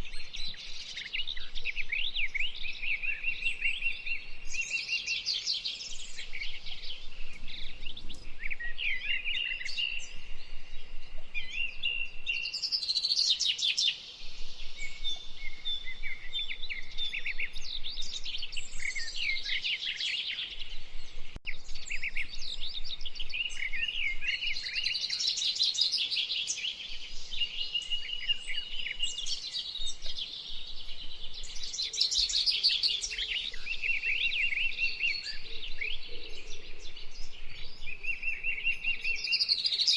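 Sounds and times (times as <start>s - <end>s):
songbird chorus: 0.0s - 39.9s.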